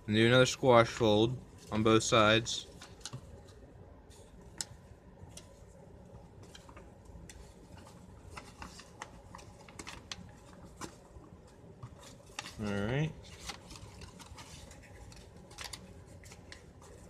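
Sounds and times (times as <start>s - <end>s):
paper being folded by hand: 0.2s - 17.0s.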